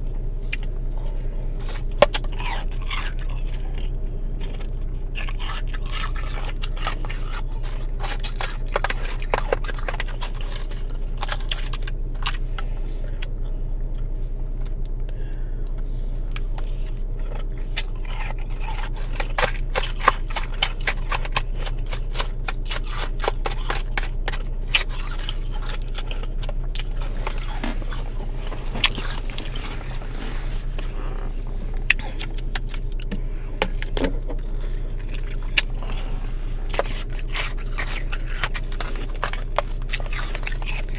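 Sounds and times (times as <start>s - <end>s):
steady low hum: 0.0s - 40.9s
frost being chewed: 0.3s - 40.9s.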